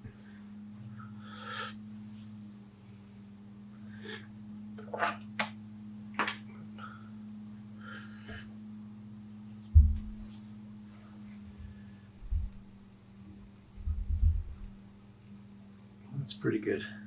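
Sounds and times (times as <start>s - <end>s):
potter's wheel humming: 0.0s - 17.0s.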